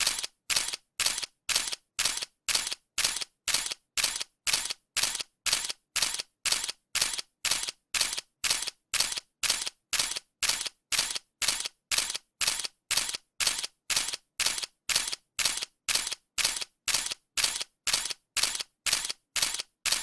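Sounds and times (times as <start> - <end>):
camera shutter clicks: 0.0 - 20.0.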